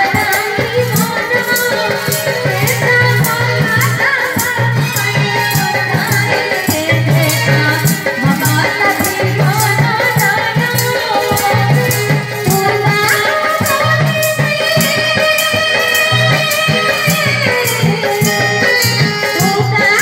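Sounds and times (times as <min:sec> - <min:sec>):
percussion beat: 0:00.0 - 0:20.0
woman singing through microphone: 0:00.0 - 0:20.0.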